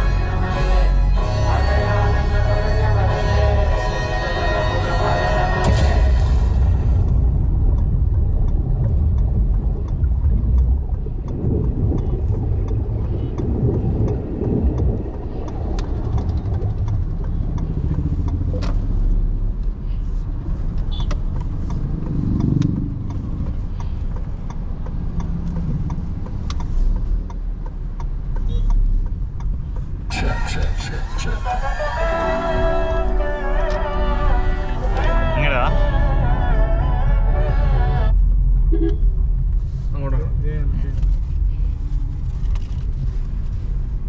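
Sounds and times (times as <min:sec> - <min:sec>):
car engine rumble: 0:00.0 - 0:44.0
road noise: 0:00.0 - 0:44.0.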